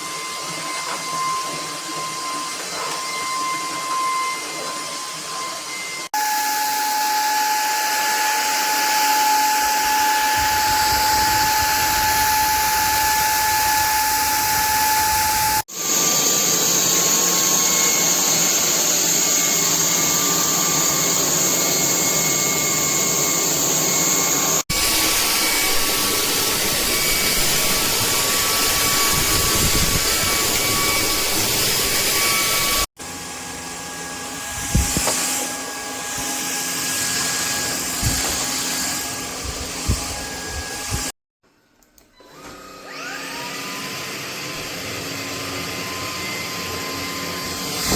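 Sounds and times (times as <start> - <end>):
stick vacuum whirring: 0.0 - 41.1, 41.9 - 47.9.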